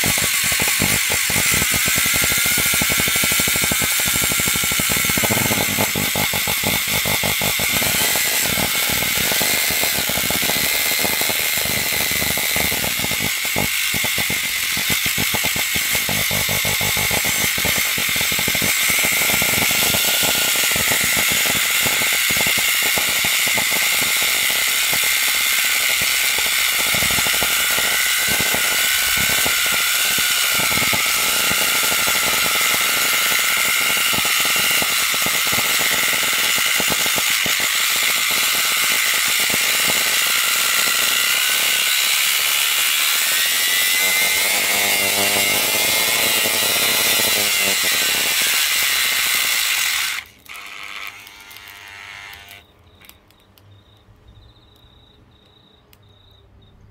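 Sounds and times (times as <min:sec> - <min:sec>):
vacuum cleaner motor whining: 0:00.0 - 0:52.7.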